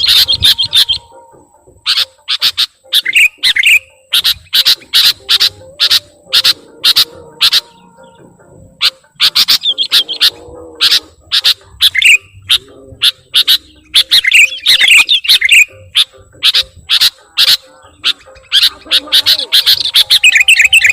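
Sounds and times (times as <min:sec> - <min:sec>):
birds twittering: 0:00.0 - 0:20.9
small birds chirping: 0:00.0 - 0:20.9.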